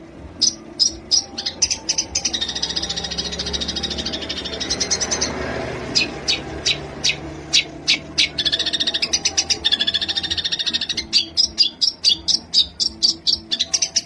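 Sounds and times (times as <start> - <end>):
songbird trilling and calling: 0.4 - 14.0.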